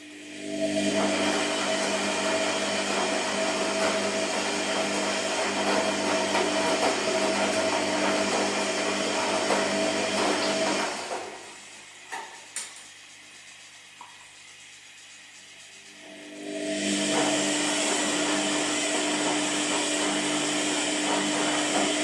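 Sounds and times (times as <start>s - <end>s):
washing machine motor whining: 0.0s - 22.0s.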